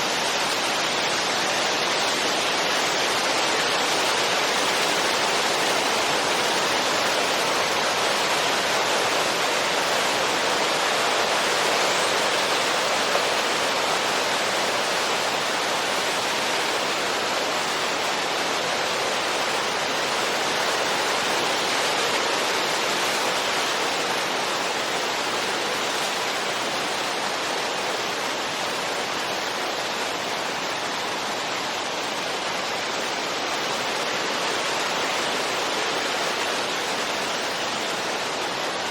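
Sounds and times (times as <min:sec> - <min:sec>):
steady wind hiss: 0:00.0 - 0:38.9.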